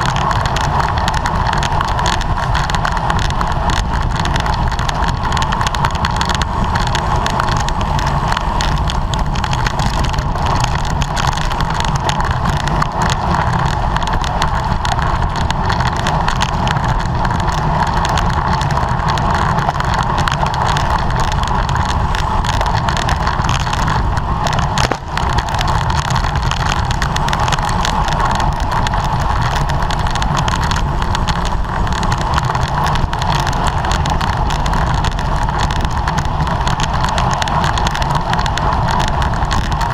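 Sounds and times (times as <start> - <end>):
rushing wind and road noise: 0.0 - 39.9
wind on microphone: 0.0 - 39.9.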